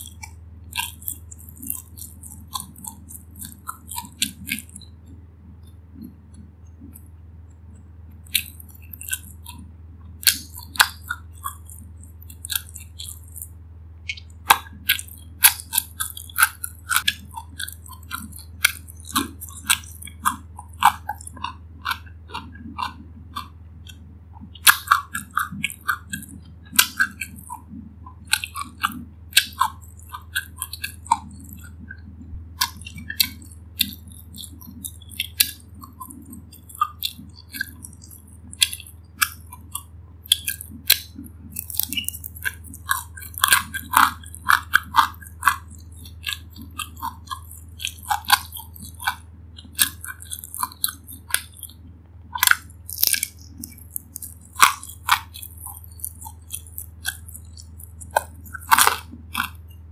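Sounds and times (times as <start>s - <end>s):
crunchy chewing: 0.0s - 59.9s
faint low hum: 0.0s - 59.9s.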